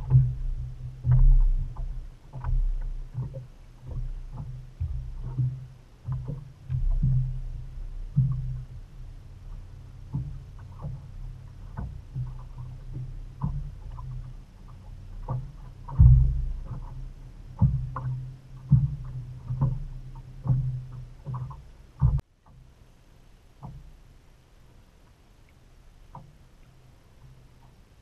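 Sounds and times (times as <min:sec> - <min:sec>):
wind rumble on microphone: 0:00.0 - 0:25.0
small waves slapping boat hull: 0:00.0 - 0:28.0.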